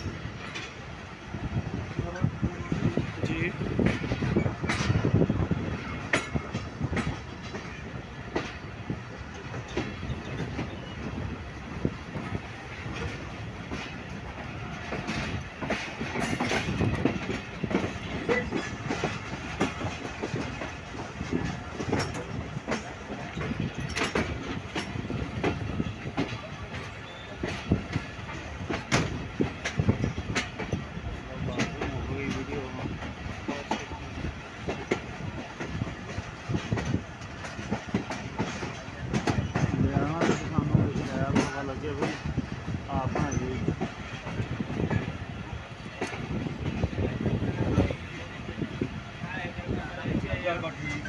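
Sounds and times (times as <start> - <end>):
train wheels clattering over rails: 0.0 - 51.0.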